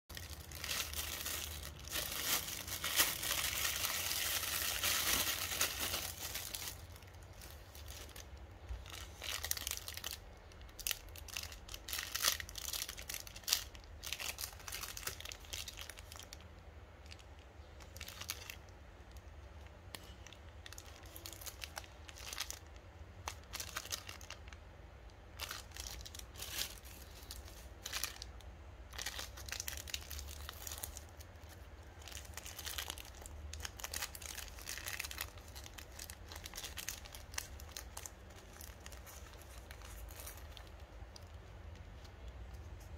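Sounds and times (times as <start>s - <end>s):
plastic wrappers crinkling: 0.1s - 42.9s.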